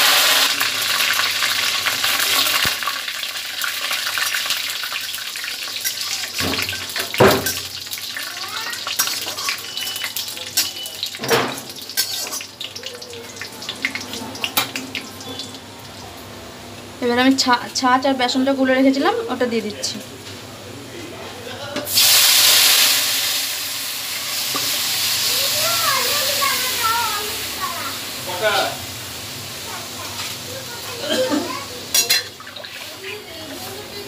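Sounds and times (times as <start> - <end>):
spices spluttering in hot oil: 0.0 - 16.2, 21.9 - 34.0.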